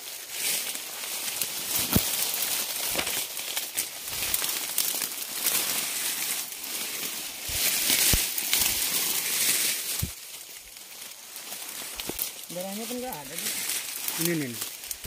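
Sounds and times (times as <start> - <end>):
leaves rustling and crackling: 0.0 - 15.0.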